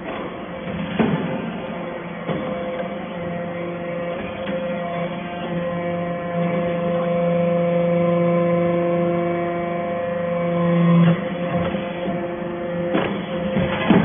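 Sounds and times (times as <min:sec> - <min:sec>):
hydraulic pump whining hum: 0:00.0 - 0:14.0.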